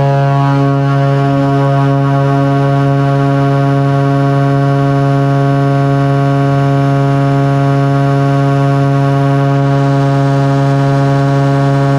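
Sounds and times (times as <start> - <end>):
floatplane engine and propeller drone: 0.0 - 11.9.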